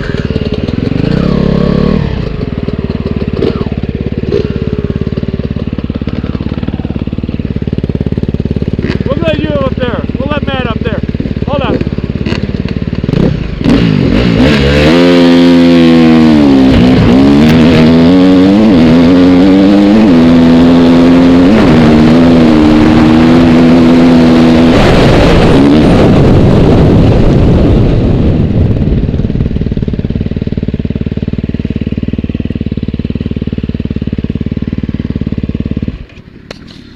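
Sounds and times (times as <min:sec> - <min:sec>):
steady rush: 0:00.0 - 0:33.2
motorcycle engine accelerating: 0:00.0 - 0:36.9.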